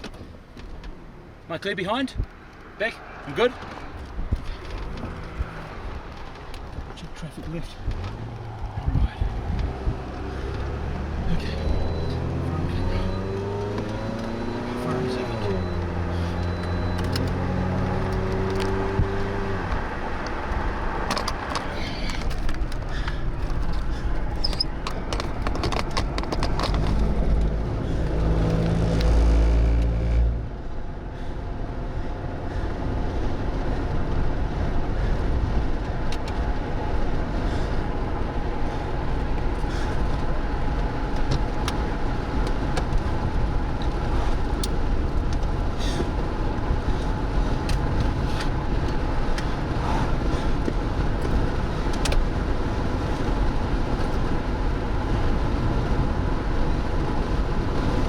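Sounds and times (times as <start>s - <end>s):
car engine: 0.0s - 58.0s
road noise: 0.0s - 58.0s.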